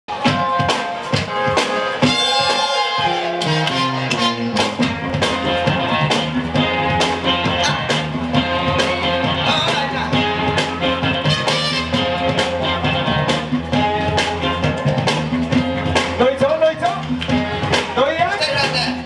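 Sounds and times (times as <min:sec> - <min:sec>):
steady drum beat: 0:00.1 - 0:19.0.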